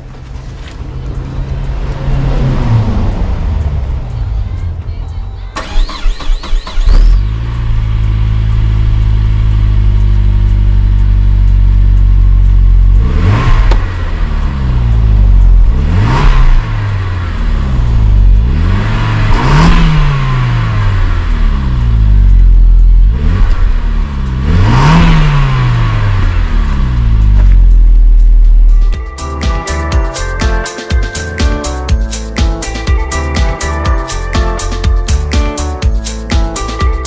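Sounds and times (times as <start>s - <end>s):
car engine revving: 0.0s - 30.5s
car engine idling: 0.0s - 37.0s.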